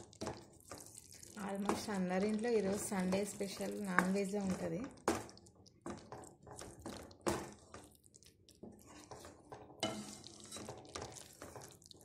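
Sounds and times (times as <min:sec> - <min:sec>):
spoon stirring thick gravy: 0:00.0 - 0:12.0.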